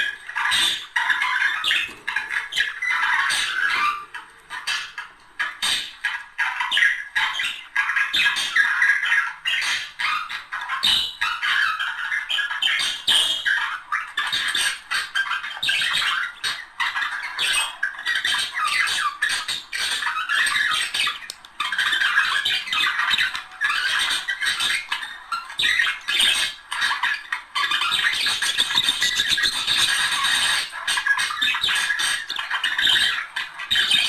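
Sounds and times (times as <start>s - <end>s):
budgerigars warbling and chattering: 0.0s - 34.0s.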